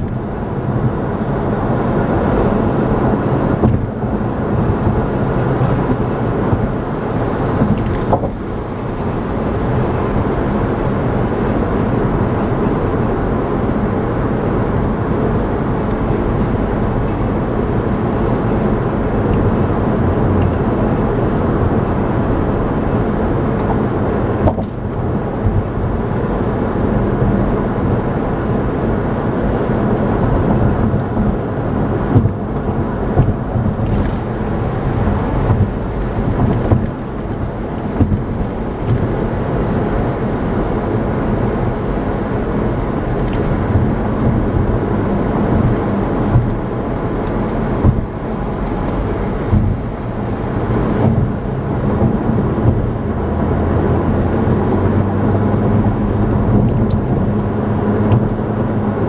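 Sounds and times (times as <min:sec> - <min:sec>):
car road noise from inside: 0:00.0 - 0:59.0.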